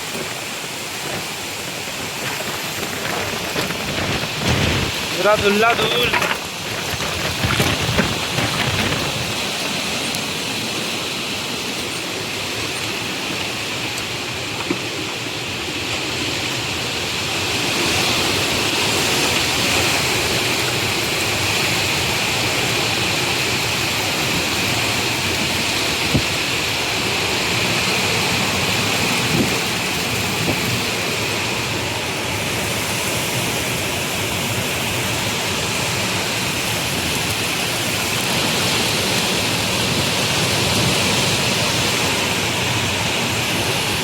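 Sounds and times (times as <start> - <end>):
strong storm wind blowing: 0.0 - 44.0.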